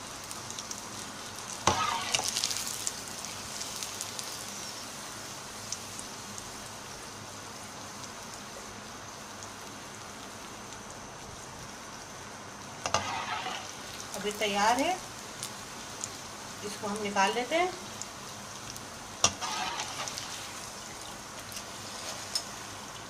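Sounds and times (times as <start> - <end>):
bread deep-frying in oil: 0.0 - 23.0.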